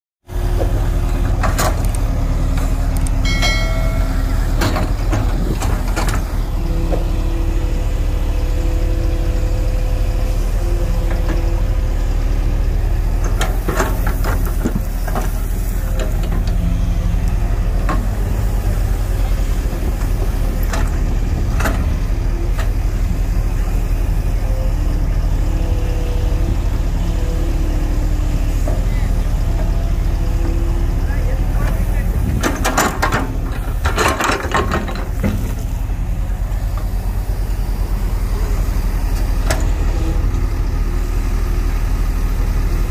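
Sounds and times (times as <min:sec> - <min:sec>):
excavator diesel engine running: 0:00.2 - 0:42.9.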